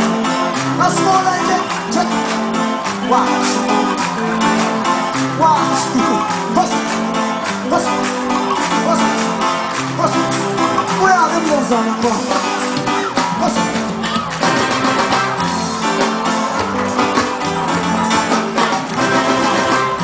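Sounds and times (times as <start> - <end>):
guitar: 0.0 - 20.0
live reggae band playing: 0.0 - 20.0.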